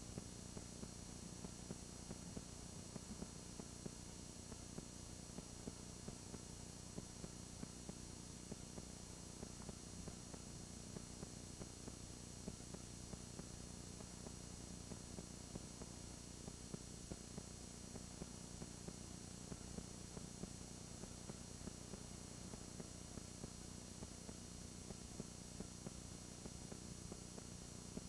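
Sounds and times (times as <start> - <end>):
videotape hum and hiss: 0.0 - 28.0.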